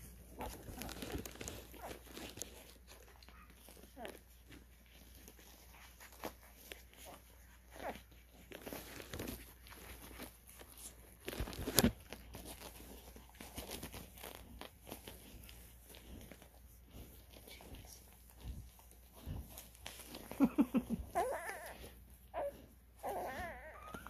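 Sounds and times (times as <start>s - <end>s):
puppies rustling on straw: 0.0s - 24.0s.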